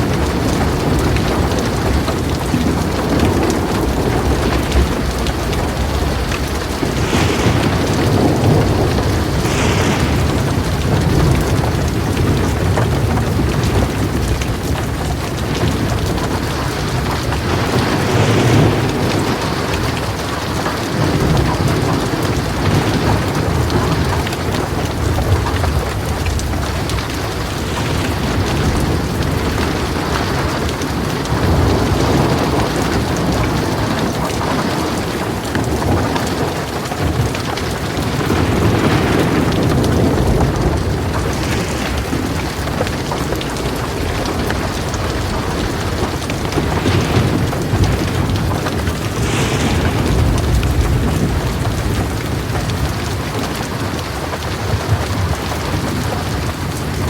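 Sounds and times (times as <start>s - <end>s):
heavy rain falling: 0.0s - 57.0s
low rolling thunder: 0.0s - 57.0s.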